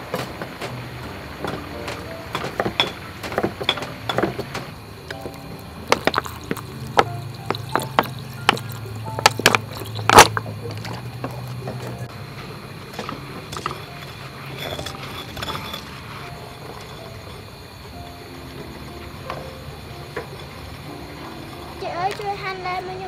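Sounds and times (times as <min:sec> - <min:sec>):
soft background music: 0:00.0 - 0:23.0.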